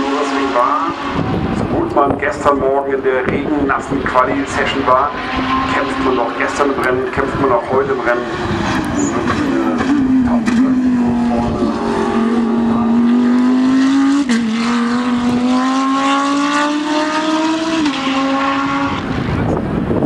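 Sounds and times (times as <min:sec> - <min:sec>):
race car engine at full throttle: 0:00.0 - 0:20.0.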